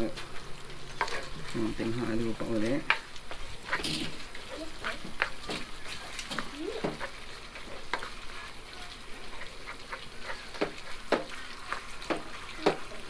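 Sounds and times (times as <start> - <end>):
meat sizzling in a frying pan: 0.0 - 13.0
spoon scraping a pan: 0.8 - 13.0.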